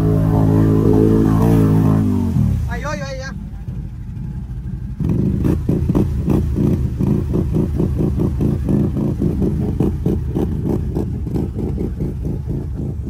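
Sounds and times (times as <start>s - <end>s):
engine revving hard: 0.0s - 2.8s, 5.0s - 12.9s
tyres churning through mud: 0.0s - 13.0s.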